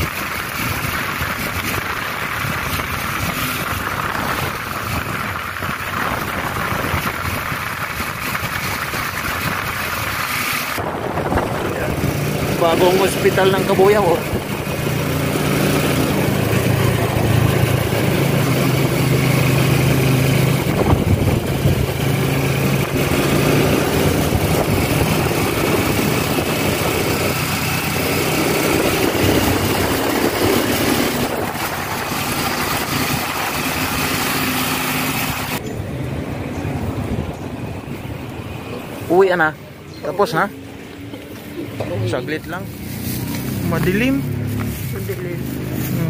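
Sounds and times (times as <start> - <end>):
motorcycle engine running: 0.0 - 38.2, 39.9 - 46.0
road and wind rush: 0.0 - 46.0.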